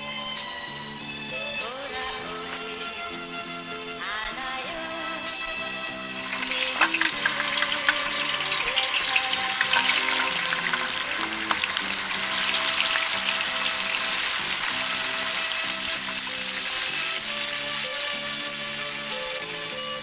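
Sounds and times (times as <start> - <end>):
background music: 0.0 - 20.0
food sizzling in a pan: 0.0 - 20.0.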